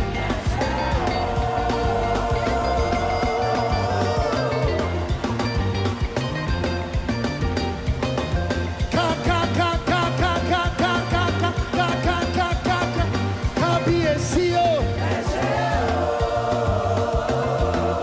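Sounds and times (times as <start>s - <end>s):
live band dance groove: 0.0s - 18.0s.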